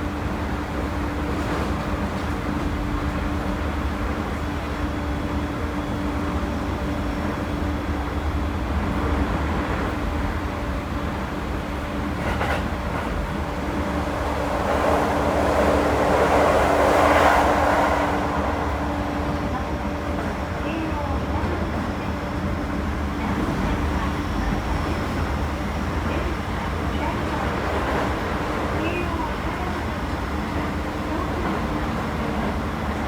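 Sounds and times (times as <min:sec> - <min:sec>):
electric train rumble and hum: 0:00.0 - 0:33.0.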